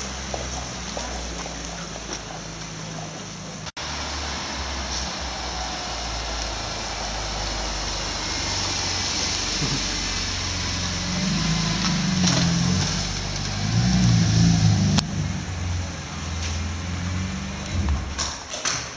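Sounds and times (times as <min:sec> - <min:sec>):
car engine driving slowly past: 0:00.0 - 0:18.2.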